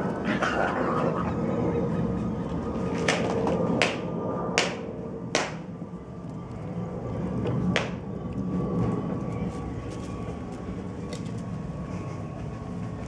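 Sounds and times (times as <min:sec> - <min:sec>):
low mechanical rumble: 0:00.0 - 0:13.0
thin steady whine: 0:00.0 - 0:13.0.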